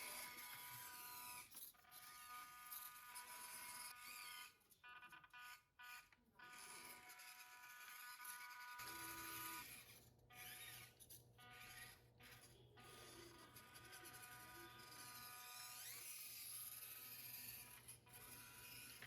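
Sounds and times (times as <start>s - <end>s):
small electric motor whine: 0.0s - 19.0s.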